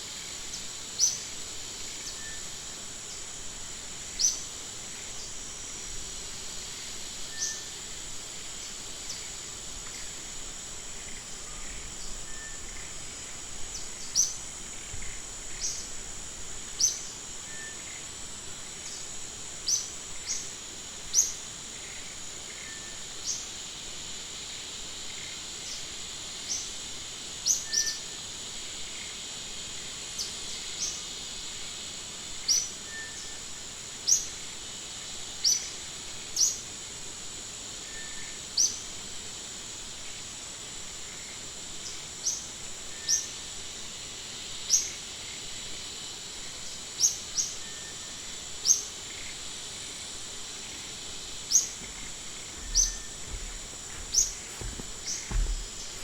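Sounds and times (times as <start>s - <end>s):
high-pitched insect buzz: 0.0s - 56.0s.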